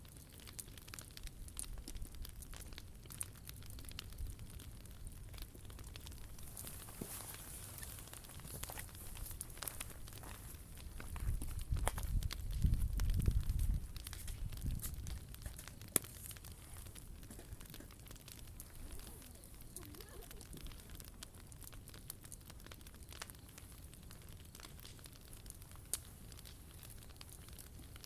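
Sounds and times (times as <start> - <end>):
sharp fire snaps: 0.0 - 28.0
wood fire crackling: 0.0 - 28.0.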